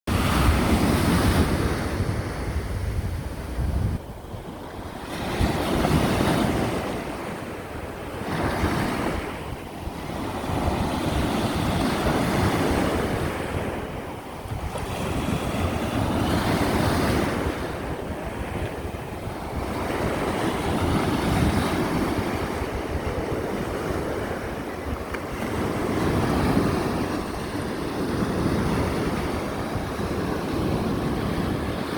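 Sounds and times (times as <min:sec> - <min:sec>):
sea waves breaking: 0:00.1 - 0:31.9
wind rumbling on microphone: 0:00.1 - 0:31.9.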